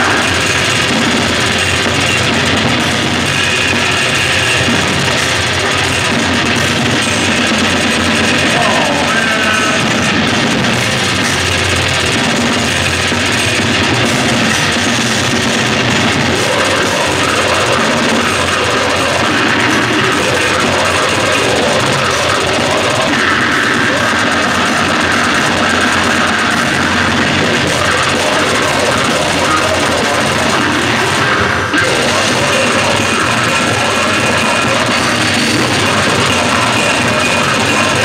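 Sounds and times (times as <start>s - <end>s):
death metal band playing: 0.0s - 38.0s.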